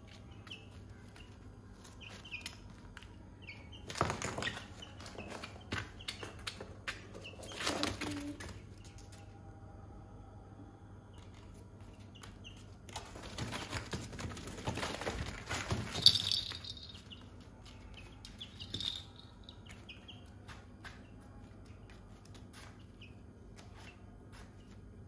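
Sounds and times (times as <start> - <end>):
chicks peeping: 0.0 - 9.4, 11.1 - 16.1, 16.7 - 25.0
chicks scuffling on a tarp: 0.0 - 9.4, 11.2 - 16.1, 17.0 - 18.8, 19.6 - 25.0.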